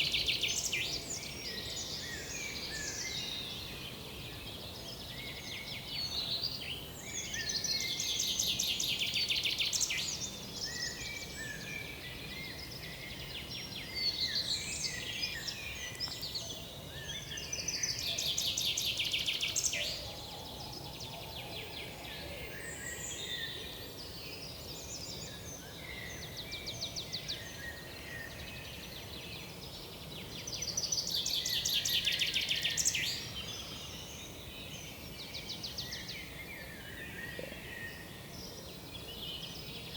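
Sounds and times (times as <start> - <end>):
bird song of rapid repeated notes: 0.0 - 20.2, 21.0 - 39.9
songbirds singing and calling: 0.0 - 39.9.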